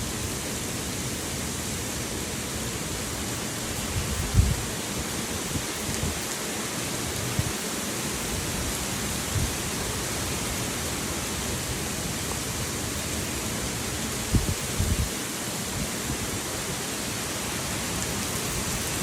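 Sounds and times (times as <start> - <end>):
heavy rain hissing: 0.0 - 19.0
wind: 0.0 - 19.0.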